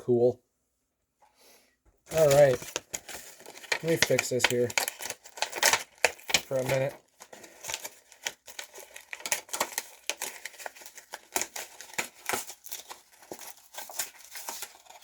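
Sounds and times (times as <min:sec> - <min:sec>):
packaging crinkling and rustling: 0:02.1 - 0:15.0.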